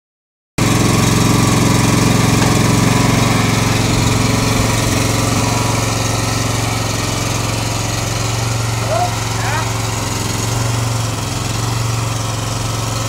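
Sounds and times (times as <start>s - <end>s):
engine running under load: 0.6s - 13.0s.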